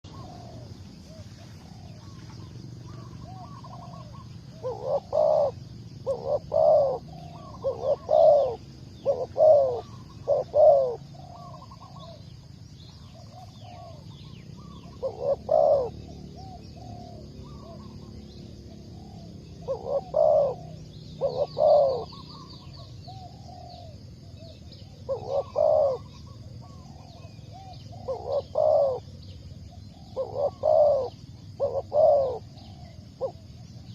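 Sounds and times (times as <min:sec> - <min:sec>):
dove cooing: 0:00.0 - 0:33.9.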